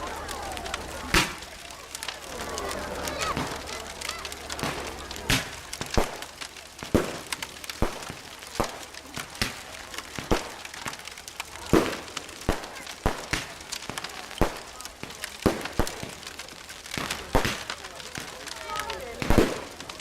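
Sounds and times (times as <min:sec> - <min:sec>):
sharp cracks and snaps: 0:00.0 - 0:20.0.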